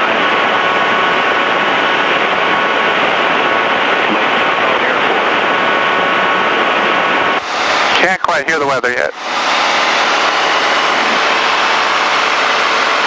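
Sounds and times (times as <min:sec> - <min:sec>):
aircraft engine and propeller: 0:00.0 - 0:13.0
faint steady whine: 0:00.0 - 0:13.0.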